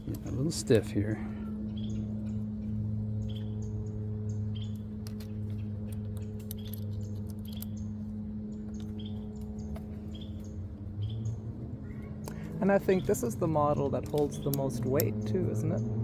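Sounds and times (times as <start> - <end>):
low hum: 0.0 - 16.0
small birds chirping: 0.0 - 16.0.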